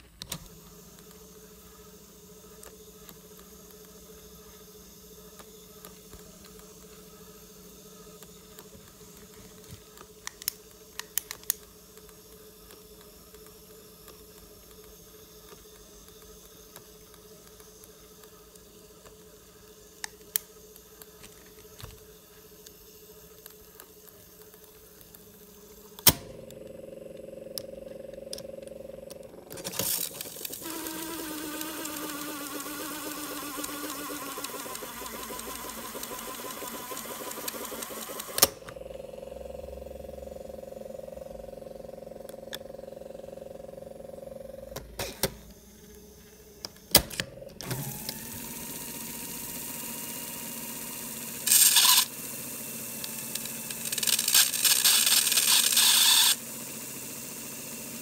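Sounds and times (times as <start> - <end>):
tape winding whir: 0.0 - 43.1, 46.6 - 58.0
tape drive motor hum: 0.0 - 58.0.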